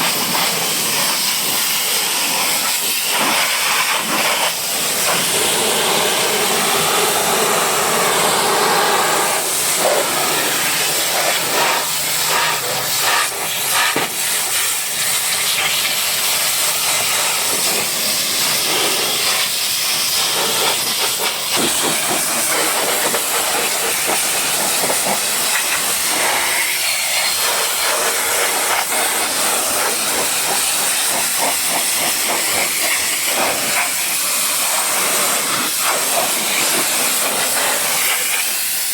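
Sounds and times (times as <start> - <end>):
pressure washer spray hissing: 0.0 - 38.9.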